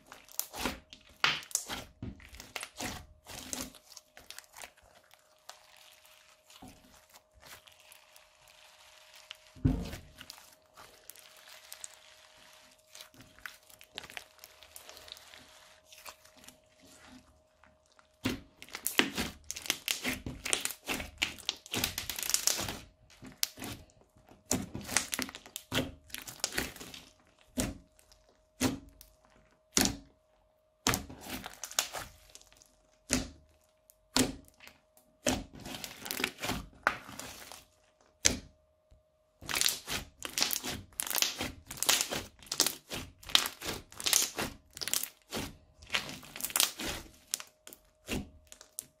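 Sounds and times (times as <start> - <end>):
crunchy slime crackling and squelching: 0.0 - 38.5, 39.4 - 49.0.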